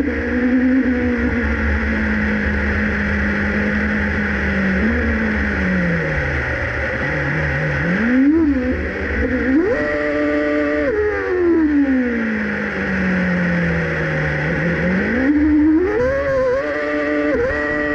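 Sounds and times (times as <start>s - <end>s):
racing car engine revving: 0.0s - 17.9s.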